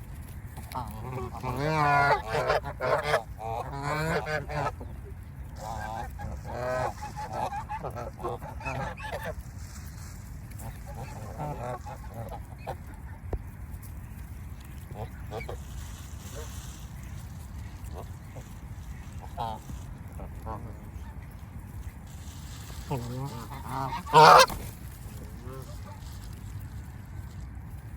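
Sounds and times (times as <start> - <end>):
geese honking: 0.6 - 13.1, 14.7 - 21.4, 22.1 - 26.4.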